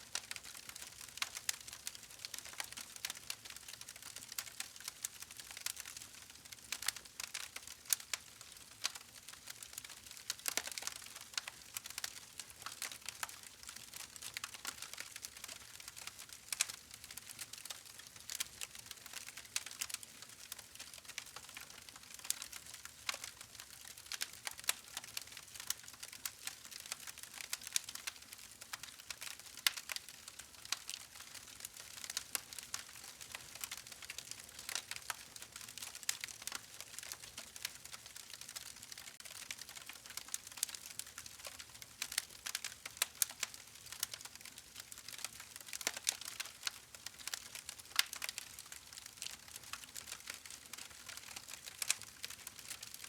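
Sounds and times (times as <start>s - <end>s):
wood fire crackling: 0.1s - 53.0s.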